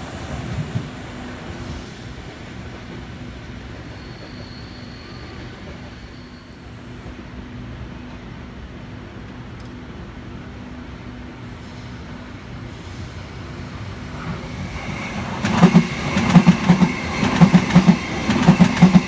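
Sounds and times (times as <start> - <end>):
distant trains rumbling: 0.0 - 19.0.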